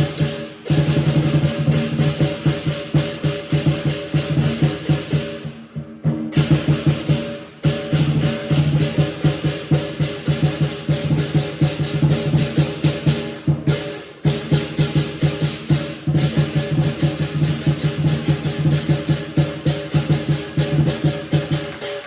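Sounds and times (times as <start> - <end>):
large drum beaten rapidly: 0.0 - 22.0.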